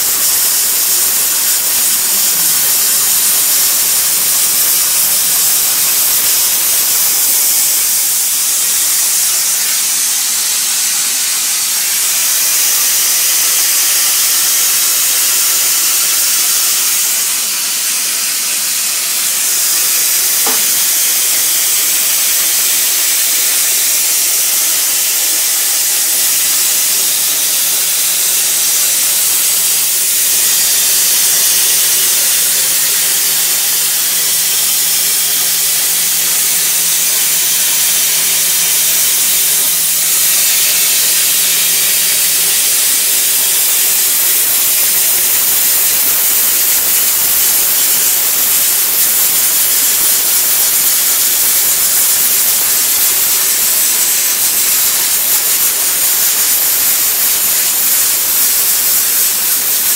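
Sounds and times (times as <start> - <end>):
plasma cutter hissing: 0.0 - 59.9.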